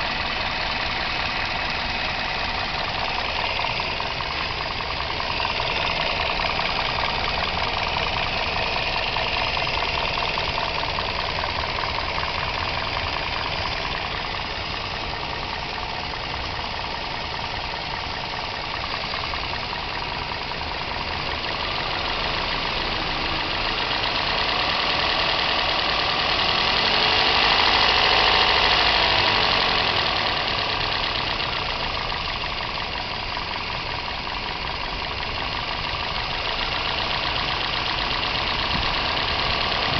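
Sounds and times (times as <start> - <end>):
car engine running: 0.0 - 39.9
engine knock: 0.0 - 39.9.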